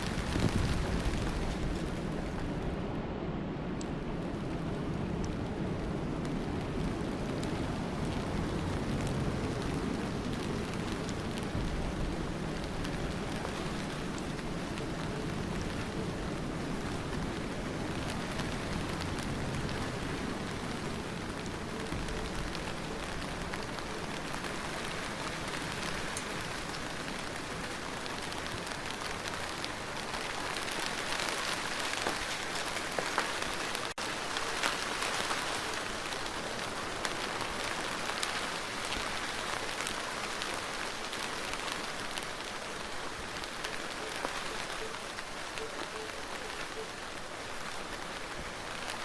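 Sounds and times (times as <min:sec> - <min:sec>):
rain hissing: 0:00.0 - 0:02.7, 0:04.1 - 0:49.0
raindrops ticking on surfaces: 0:00.0 - 0:02.8, 0:03.7 - 0:49.0.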